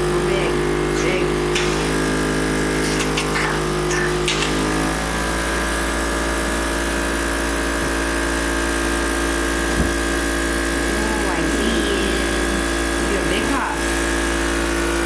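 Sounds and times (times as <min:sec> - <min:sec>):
blower humming and whining: 0:00.0 - 0:15.0.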